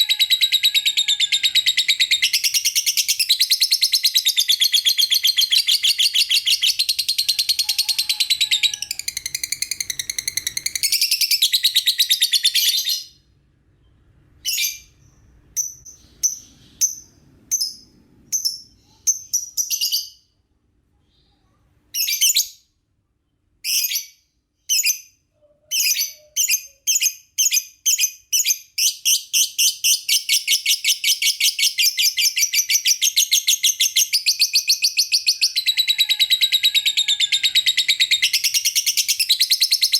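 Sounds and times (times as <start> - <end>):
lovebird chirping: 0.0 - 20.3, 23.6 - 39.9.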